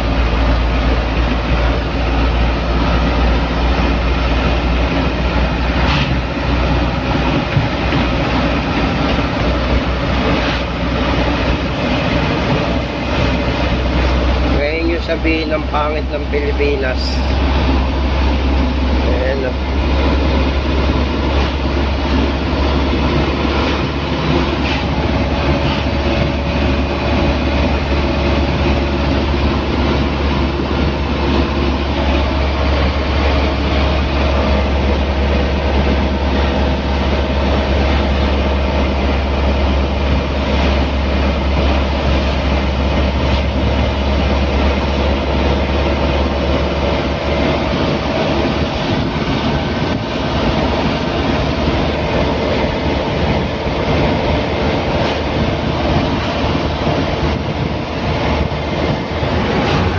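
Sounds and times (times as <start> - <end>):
truck engine drone: 0.0 - 59.9
tyre and wind rush: 0.0 - 59.9.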